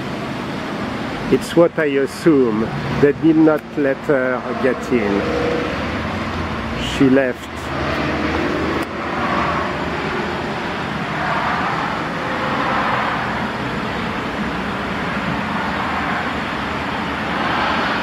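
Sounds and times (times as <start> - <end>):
road traffic rush: 0.0 - 18.0.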